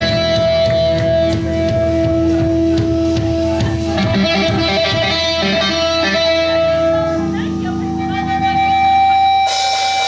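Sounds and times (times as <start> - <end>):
picked guitar line: 0.0 - 10.0
pop-punk band playing: 0.0 - 10.0.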